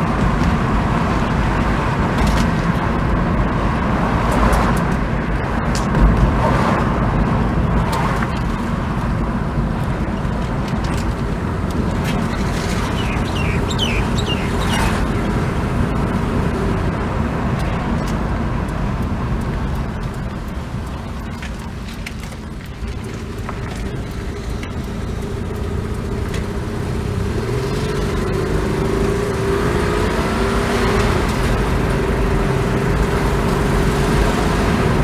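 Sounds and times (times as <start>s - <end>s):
rough car engine rumble: 0.0s - 35.0s.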